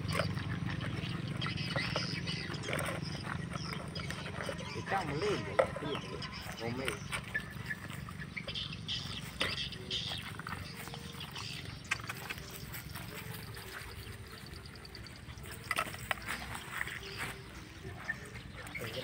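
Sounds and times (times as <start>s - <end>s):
dogs chewing and snuffling: 0.0s - 19.0s.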